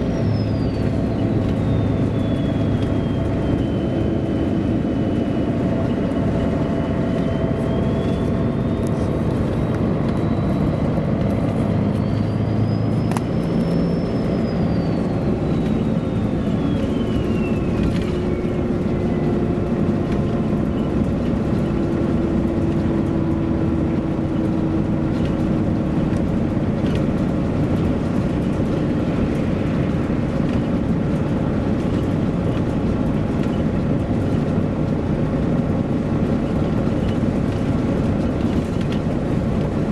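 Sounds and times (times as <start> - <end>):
bus diesel engine: 0.0 - 39.9
road rumble: 0.0 - 39.9.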